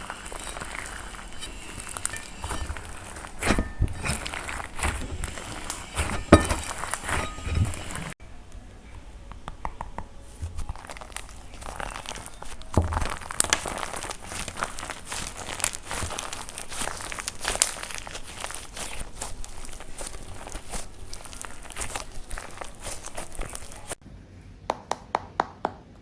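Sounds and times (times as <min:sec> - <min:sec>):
clay cracking and crumbling: 0:00.0 - 0:24.0.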